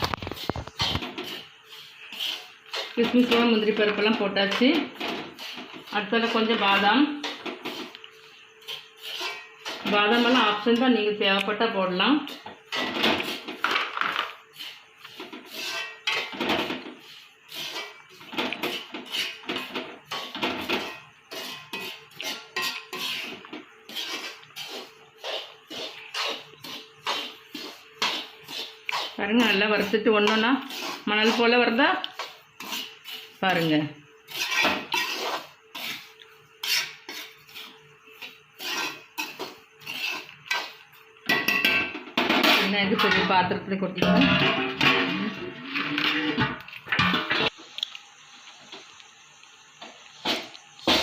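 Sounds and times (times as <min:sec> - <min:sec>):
metal spatula scraping a pan: 0:00.0 - 0:11.0, 0:12.2 - 0:47.6.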